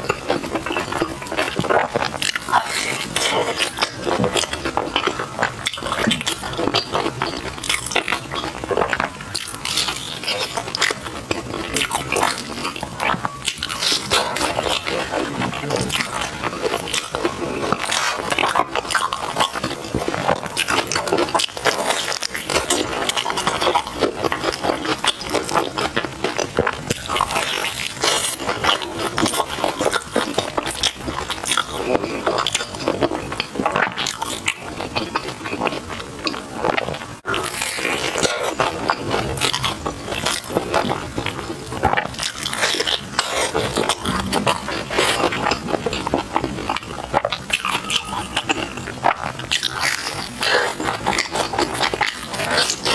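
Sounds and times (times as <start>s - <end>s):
wet chewing and smacking: 0.0s - 52.9s.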